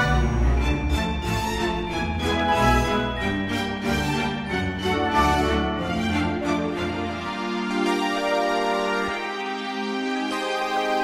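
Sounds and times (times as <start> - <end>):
orchestral strings with low bass: 0.0 - 10.6.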